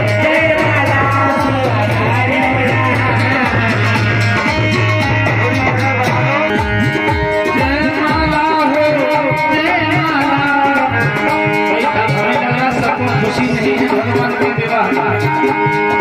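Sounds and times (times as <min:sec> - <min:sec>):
drum beat and bass: 0:00.0 - 0:16.0
plucked string melody: 0:00.0 - 0:16.0.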